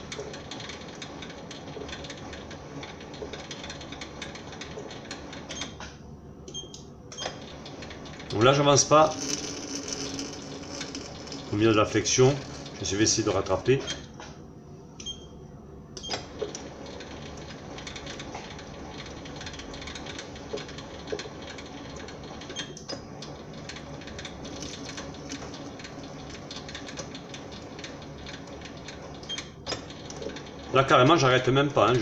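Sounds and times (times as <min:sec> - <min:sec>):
lathe running with clicking clatter: 0:00.0 - 0:06.0, 0:06.7 - 0:14.3, 0:16.0 - 0:32.0.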